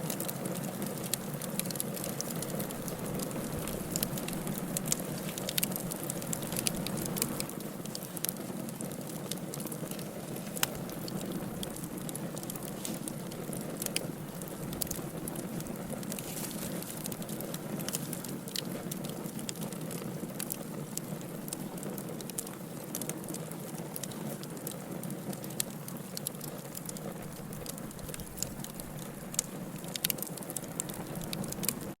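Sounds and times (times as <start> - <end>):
fire crackling and popping: 0.0 - 32.0
firewood burning: 0.0 - 32.0.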